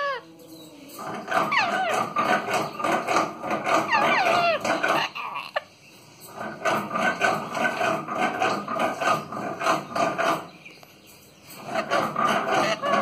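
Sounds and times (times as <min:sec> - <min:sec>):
parrot rasping: 0:01.0 - 0:05.7, 0:06.3 - 0:10.6, 0:11.6 - 0:13.0.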